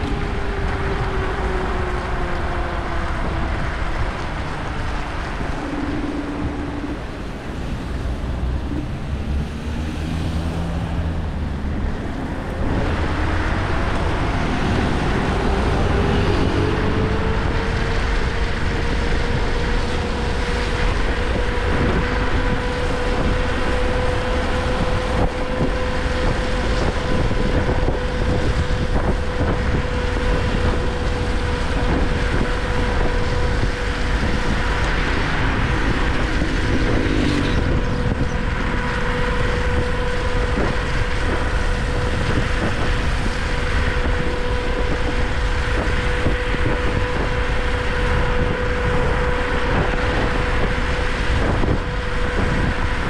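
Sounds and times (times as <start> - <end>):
electric motor whine: 0.0 - 53.0
tyre noise on wet road: 0.0 - 53.0
wind rushing over microphone: 0.0 - 53.0.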